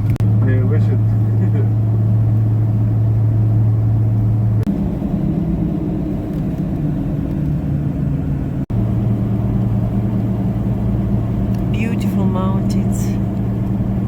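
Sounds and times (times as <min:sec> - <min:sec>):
vehicle engine and road drone: 0:00.0 - 0:14.0.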